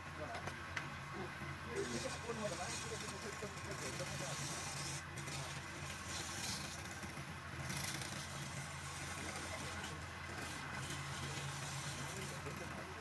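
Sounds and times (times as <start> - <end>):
lathe motor humming: 1.3 - 13.0
chisel scraping spinning wood: 1.7 - 13.0.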